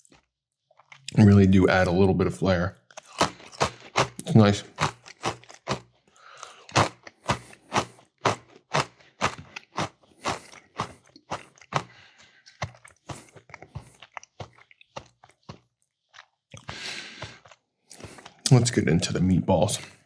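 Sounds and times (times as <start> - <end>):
chewing crunchy crackers: 0.0 - 1.6, 2.7 - 20.0.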